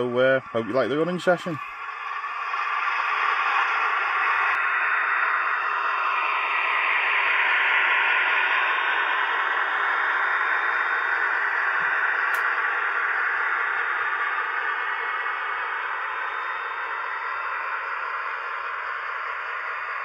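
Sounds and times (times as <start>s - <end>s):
model train diesel engine sound: 0.0s - 20.0s.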